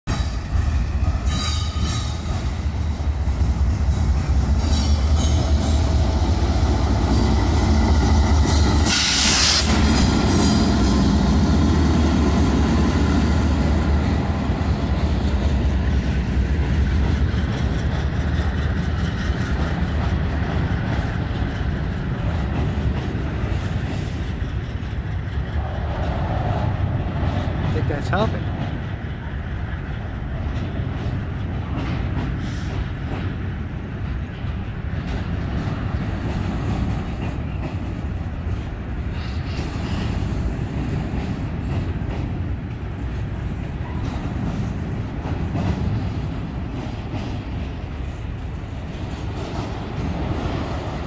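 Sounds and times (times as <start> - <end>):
diesel locomotive engine droning: 0.1 - 51.0.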